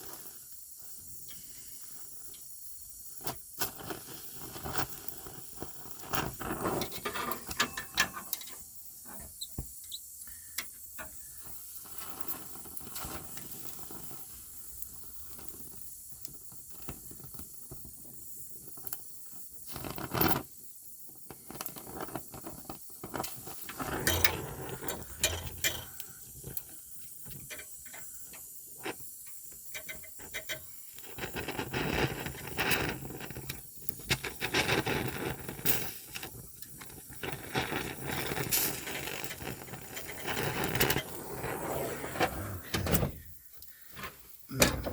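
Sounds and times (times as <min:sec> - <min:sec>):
welding crackling and hissing: 0:00.0 - 0:44.9.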